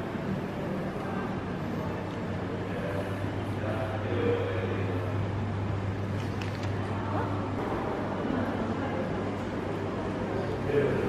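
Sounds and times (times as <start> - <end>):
room noise: 0.0 - 11.0
steady low hum: 0.0 - 11.0.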